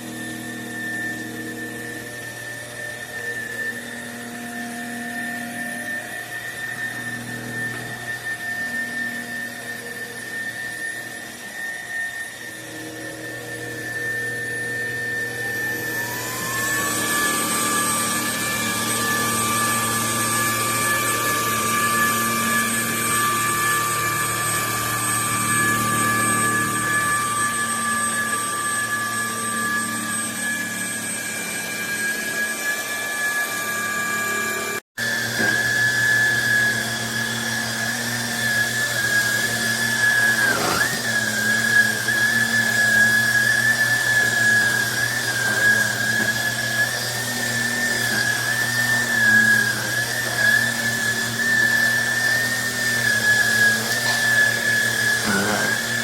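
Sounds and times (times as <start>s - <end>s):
handheld vacuum cleaner whining: 0.0s - 56.0s.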